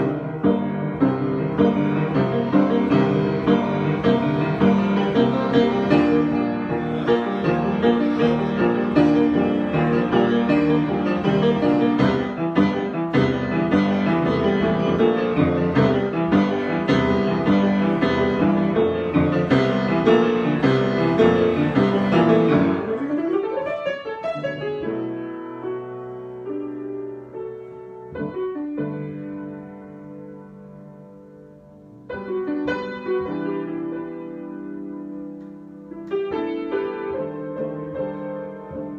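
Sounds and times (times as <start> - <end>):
solo piano improvisation: 0.0 - 38.9.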